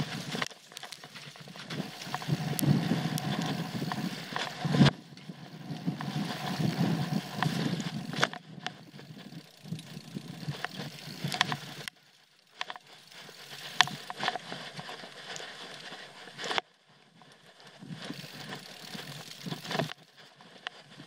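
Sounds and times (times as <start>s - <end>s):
bike clicks and knocks: 0.0s - 16.7s, 17.9s - 20.8s
bike tyres rumbling on dirt: 0.0s - 21.0s.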